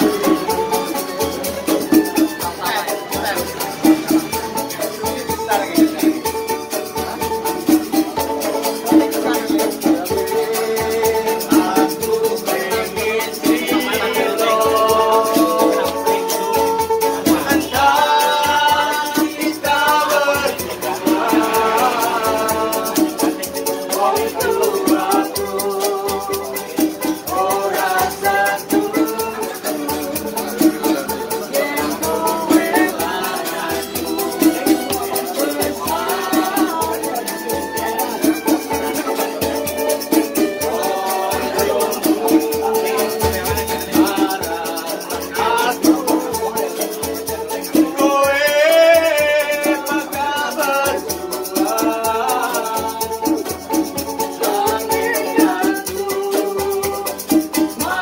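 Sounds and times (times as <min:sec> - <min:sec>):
person singing: 0:00.0 - 0:58.0
steady rhythmic beat: 0:00.0 - 0:58.0.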